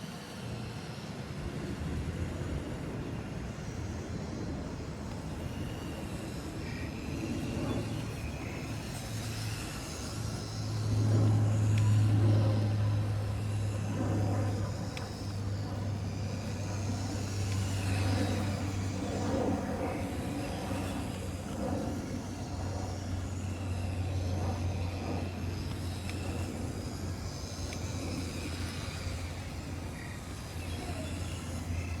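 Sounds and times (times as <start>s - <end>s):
toy car electric motor humming: 0.0s - 32.0s.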